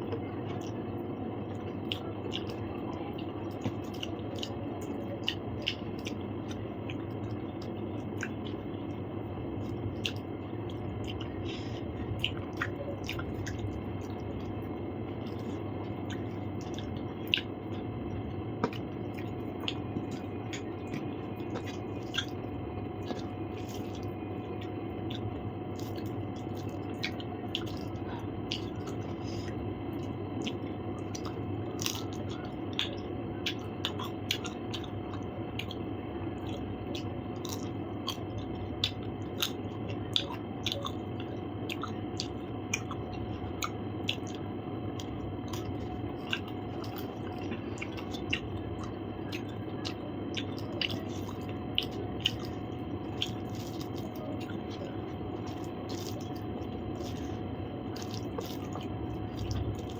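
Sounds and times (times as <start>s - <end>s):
person chewing with wet mouth sounds: 0.0s - 59.9s
steady background hum: 0.0s - 59.9s.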